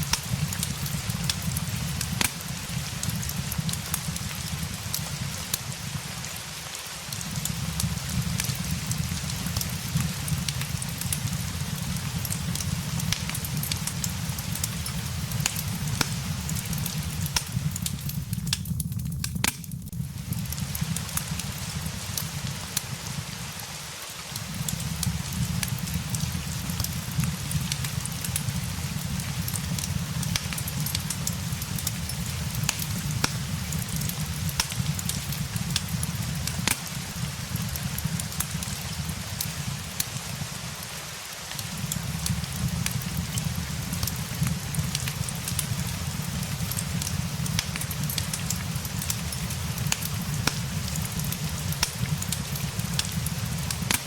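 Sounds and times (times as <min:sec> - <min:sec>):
log fire crackling: 0:00.0 - 0:54.0
steady rain: 0:00.0 - 0:54.0.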